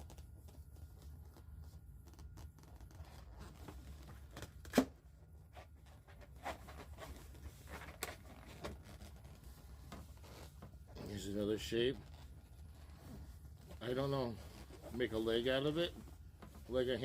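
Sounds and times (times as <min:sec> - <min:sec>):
balloons rubbing and creaking: 0:00.0 - 0:04.5, 0:05.4 - 0:17.0.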